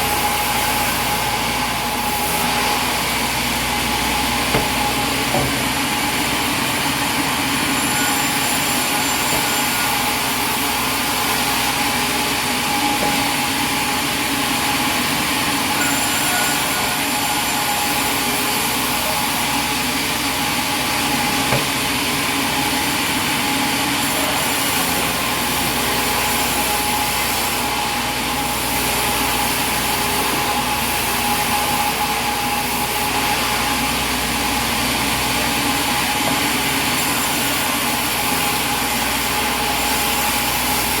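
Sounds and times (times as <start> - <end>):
sawmill machinery humming: 0.0 - 41.0.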